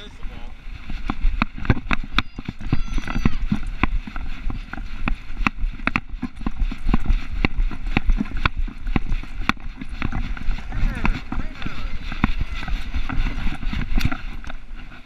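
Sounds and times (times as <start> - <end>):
dog footsteps clicking on pavement: 0.8 - 15.0.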